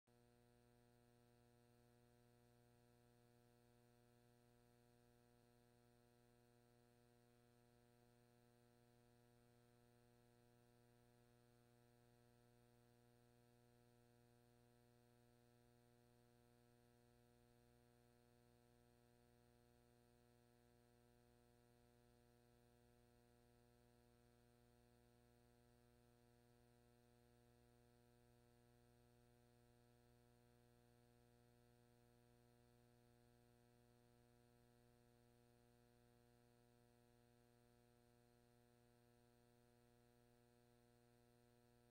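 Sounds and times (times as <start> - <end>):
faint steady hum: 0.1 - 41.9.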